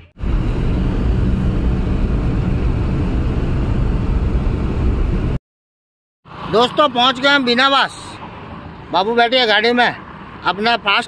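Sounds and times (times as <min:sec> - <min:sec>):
car road and wind noise: 0:00.0 - 0:05.4, 0:06.3 - 0:11.0.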